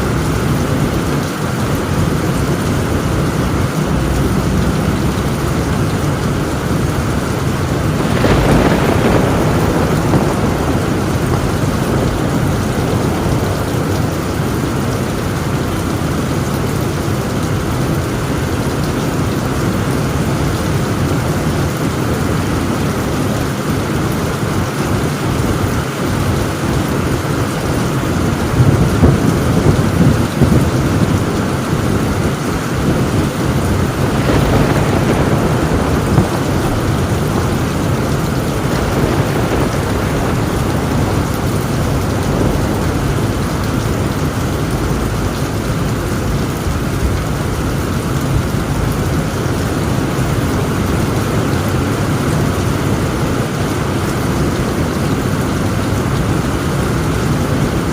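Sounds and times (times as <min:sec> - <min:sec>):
heavy rain on a tin roof: 0:00.0 - 0:57.9
thunder rumbling: 0:00.0 - 0:57.9.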